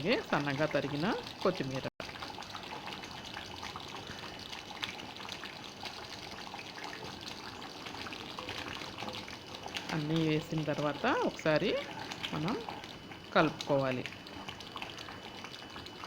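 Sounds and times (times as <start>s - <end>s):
curry bubbling in a pot: 0.0s - 16.0s.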